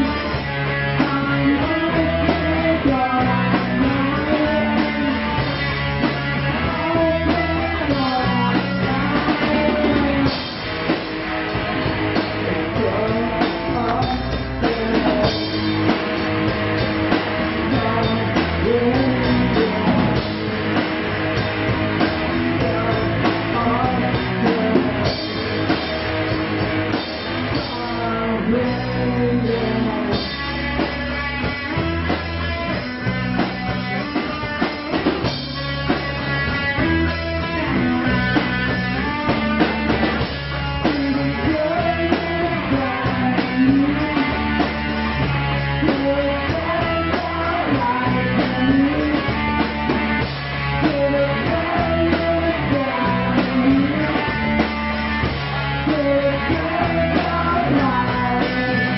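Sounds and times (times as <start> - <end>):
person singing: 0.0 - 10.9, 11.6 - 16.1, 17.4 - 21.2, 21.9 - 26.3, 27.1 - 32.8, 33.4 - 58.9
bass guitar: 0.0 - 58.9
drum kit: 0.0 - 58.9
electric guitar: 0.0 - 58.9.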